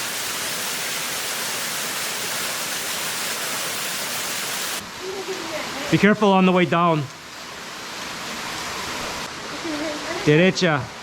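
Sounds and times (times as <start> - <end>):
waterfall pouring: 0.0 - 9.2.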